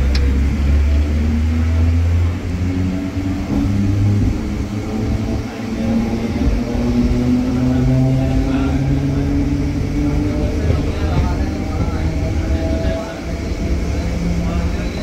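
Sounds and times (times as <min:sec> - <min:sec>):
electric train rumble: 0:00.0 - 0:15.0
train motor hum: 0:00.0 - 0:15.0.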